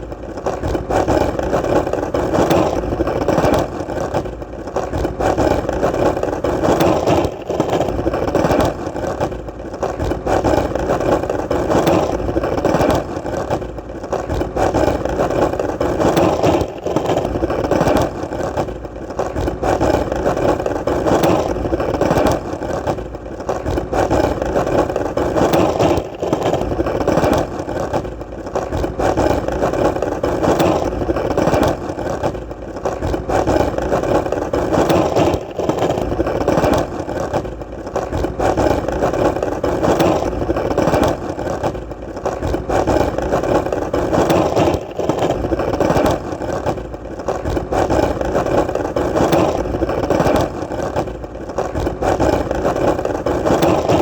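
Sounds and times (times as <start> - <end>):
skateboard wheels rolling: 0.0 - 54.0.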